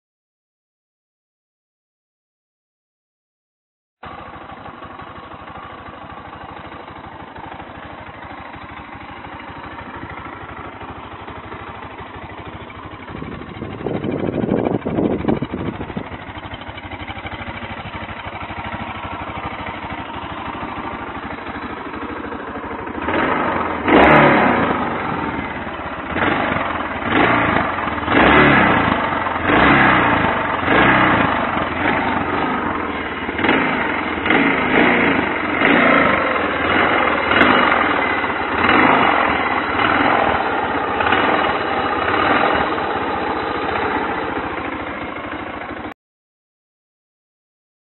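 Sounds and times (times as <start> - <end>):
motorcycle engine idling and blipping: 4.0 - 46.0.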